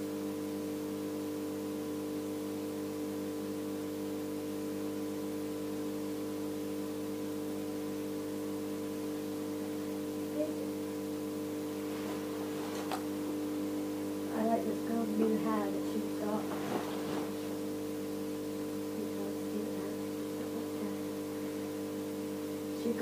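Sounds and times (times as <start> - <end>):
electrical hum with held tones: 0.0 - 23.0.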